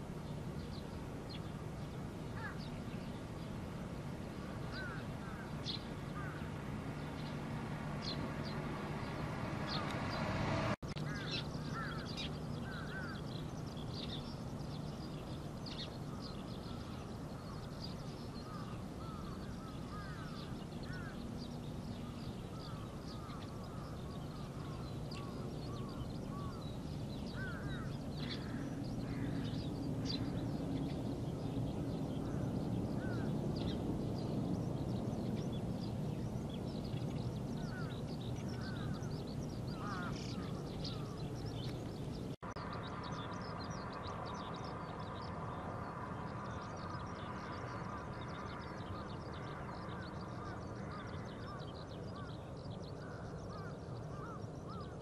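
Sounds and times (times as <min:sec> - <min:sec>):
birds calling: 0:00.0 - 0:45.3, 0:46.2 - 0:55.0
low background rumble: 0:00.0 - 0:55.0.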